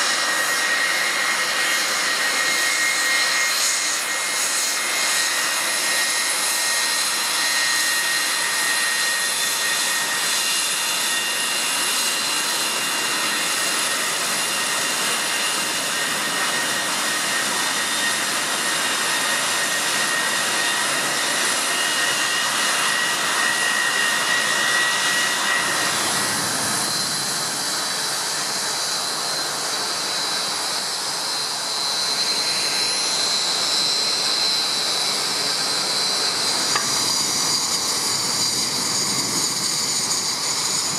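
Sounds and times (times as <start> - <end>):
higher-pitched jet whine: 0.0 - 40.9
jet engines whining: 0.0 - 40.9.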